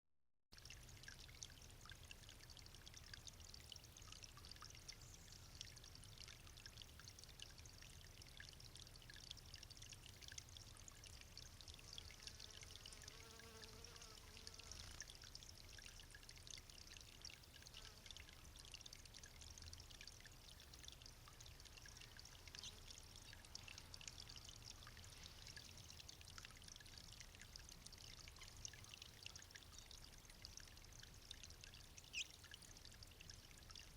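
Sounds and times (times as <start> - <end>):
fountain water trickling and splashing: 0.6 - 33.9.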